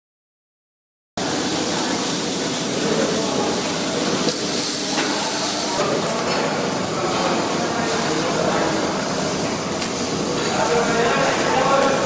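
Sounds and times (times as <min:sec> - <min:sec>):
loud steady hiss: 0:01.2 - 0:12.0.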